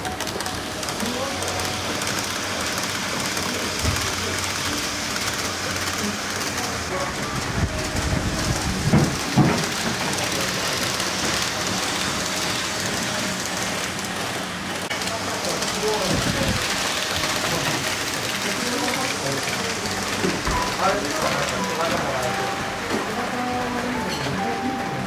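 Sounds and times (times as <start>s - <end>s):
model train wheels rolling on rail: 0.0s - 25.0s.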